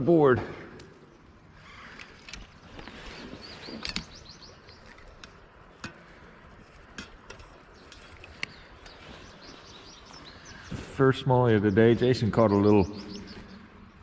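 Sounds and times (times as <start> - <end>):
small birds chirping: 0.9 - 14.0.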